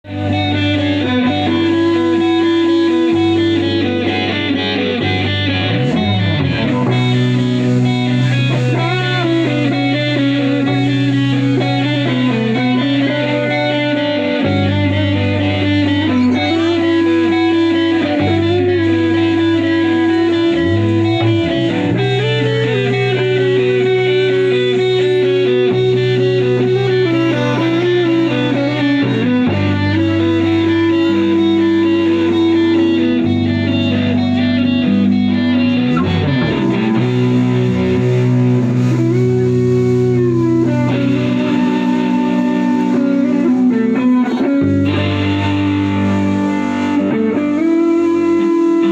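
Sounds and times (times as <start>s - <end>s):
bass line: 0.0s - 48.9s
electric guitar bending notes: 0.0s - 48.9s.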